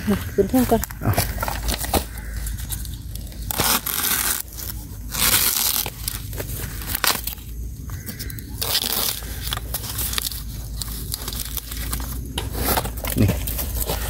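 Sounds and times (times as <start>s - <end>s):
dry leaves crackling: 0.0s - 14.0s.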